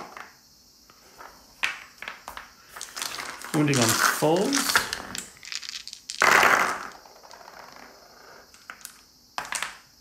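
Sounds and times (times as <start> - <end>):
dice clattering on a table: 0.0 - 0.4, 1.2 - 9.9.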